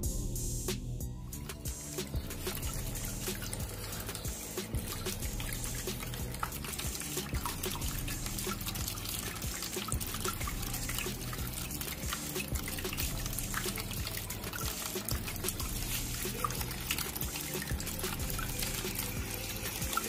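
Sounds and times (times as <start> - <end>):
water trickling and dripping: 1.0 - 20.0.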